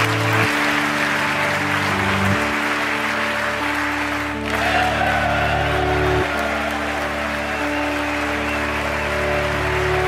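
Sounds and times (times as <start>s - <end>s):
crowd applauding: 0.0s - 10.0s
slow music of held chords: 0.0s - 10.0s.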